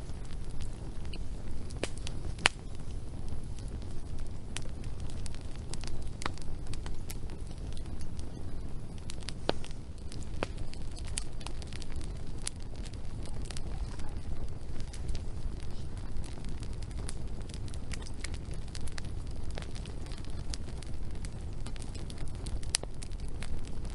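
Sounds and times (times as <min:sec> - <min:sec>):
wood fire crackling and popping: 0:00.0 - 0:23.9.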